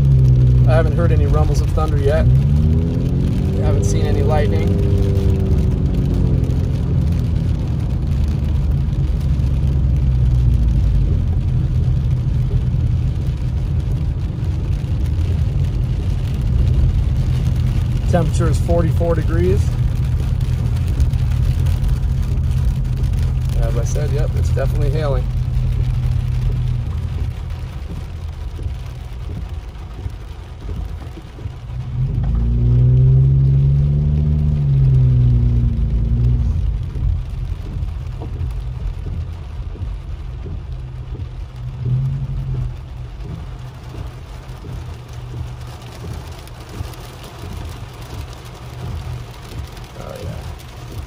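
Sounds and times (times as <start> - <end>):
engine and road rumble: 0.0 - 51.0
engine revving: 0.0 - 51.0
hail and rain hitting car: 0.0 - 51.0.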